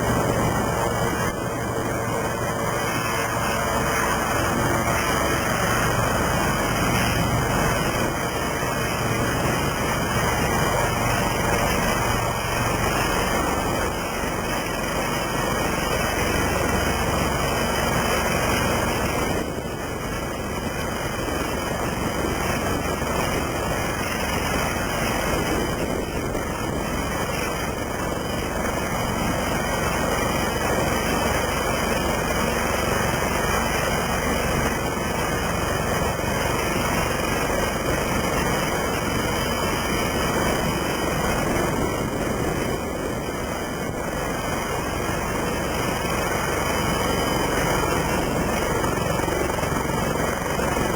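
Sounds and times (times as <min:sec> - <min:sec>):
helicopter running: 0:00.0 - 0:50.9.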